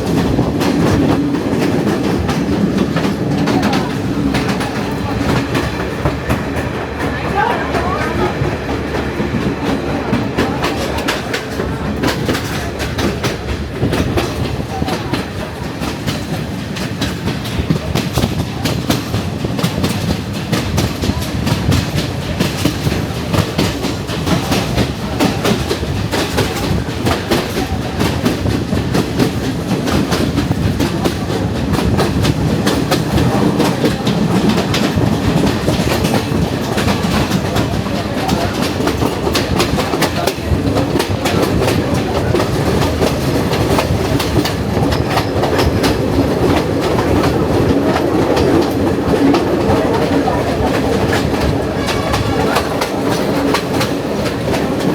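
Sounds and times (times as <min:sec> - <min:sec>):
train wheels rumbling on track: 0:00.0 - 0:54.9
wheels clacking over rail joints: 0:00.0 - 0:54.9.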